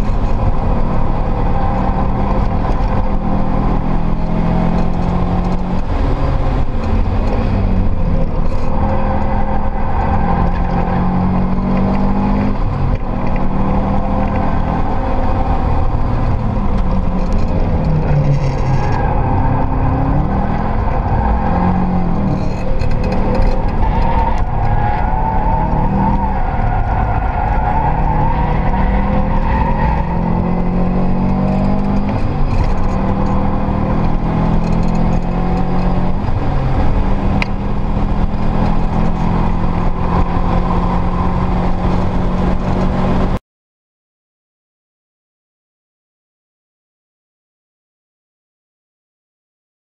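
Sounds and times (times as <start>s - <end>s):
car engine revving through gears: 0.0s - 43.4s.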